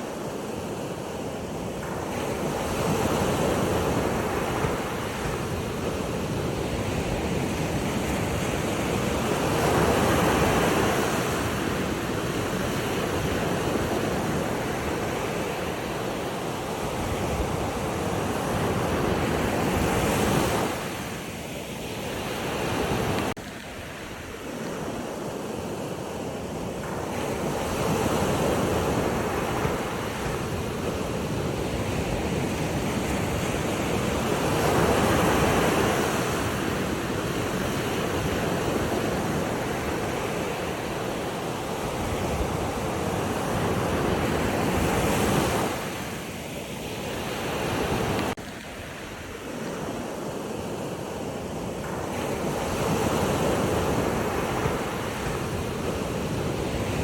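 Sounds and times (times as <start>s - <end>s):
ocean waves breaking on shore: 0.0s - 57.0s
wind on microphone: 0.0s - 57.0s.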